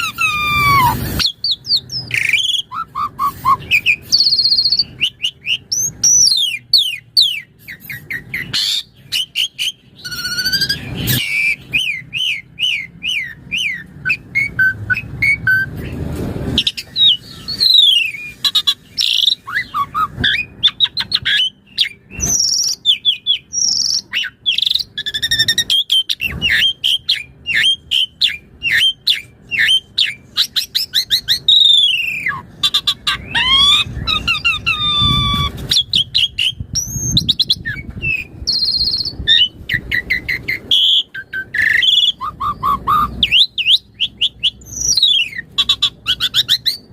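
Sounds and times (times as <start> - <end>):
starling singing varied whistles: 0.0 - 16.0, 16.6 - 46.9.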